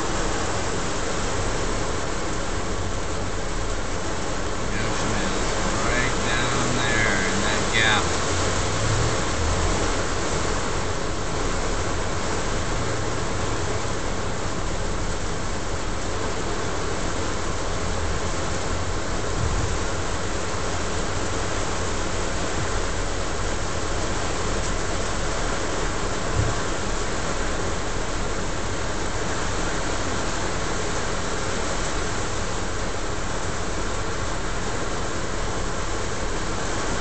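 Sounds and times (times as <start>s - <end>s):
heavy rain on car roof: 0.0s - 37.0s
low hum of car: 0.0s - 37.0s.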